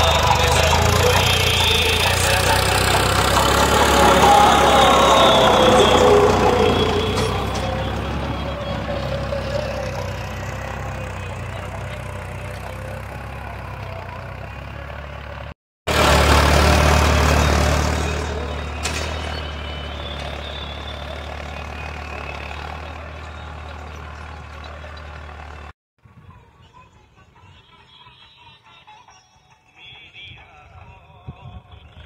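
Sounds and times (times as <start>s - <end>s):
tractor engine running: 0.0s - 25.7s.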